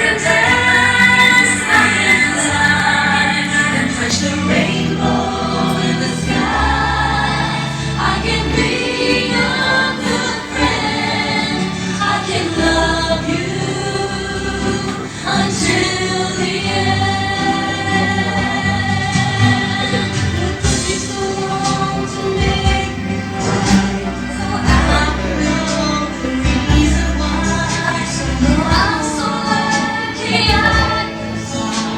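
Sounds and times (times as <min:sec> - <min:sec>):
choir singing over held chords: 0:00.0 - 0:31.9
steady bass line: 0:00.0 - 0:31.9.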